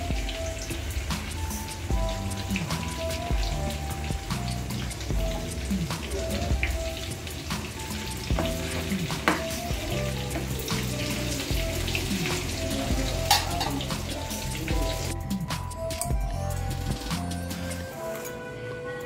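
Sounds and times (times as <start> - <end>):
food sizzling in oil: 0.0 - 18.3
background music: 0.0 - 19.0.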